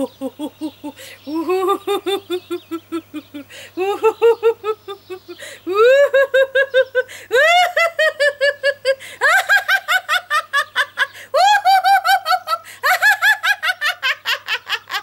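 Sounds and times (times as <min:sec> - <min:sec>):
woman laughing: 0:00.0 - 0:15.0.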